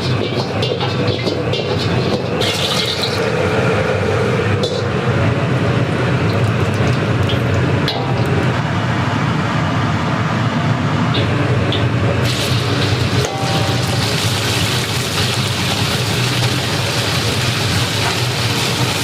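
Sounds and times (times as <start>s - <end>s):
kitchen equipment roaring: 0.0s - 19.0s.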